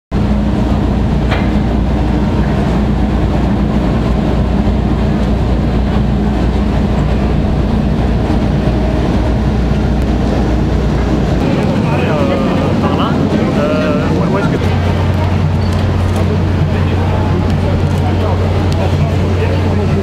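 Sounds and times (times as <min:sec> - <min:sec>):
low mechanical drone: 0:00.1 - 0:20.0.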